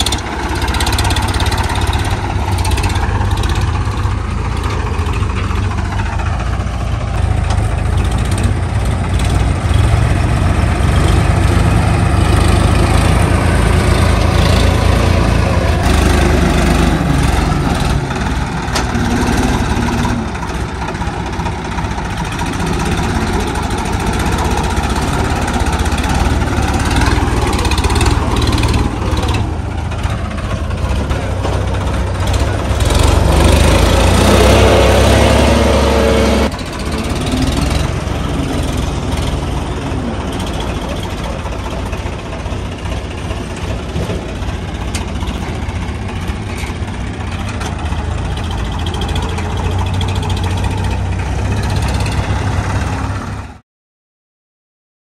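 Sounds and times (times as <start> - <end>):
front loader digging soil: 0.0 - 53.6
tractor diesel engine under load: 0.0 - 53.6.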